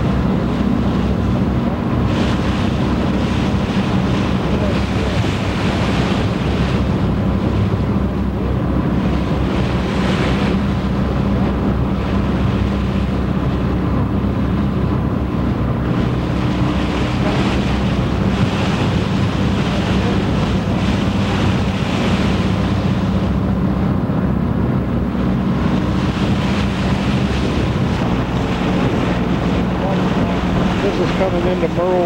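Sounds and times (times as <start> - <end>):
boat engine droning: 0.0 - 32.0
water rushing: 0.0 - 32.0
wind buffeting microphone: 0.0 - 32.0.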